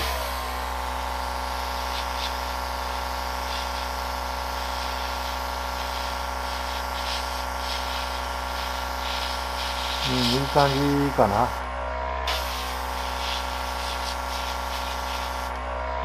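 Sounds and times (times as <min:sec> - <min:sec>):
motor humming: 0:00.0 - 0:16.0
airbrush spraying hiss: 0:00.9 - 0:11.6, 0:12.3 - 0:15.6.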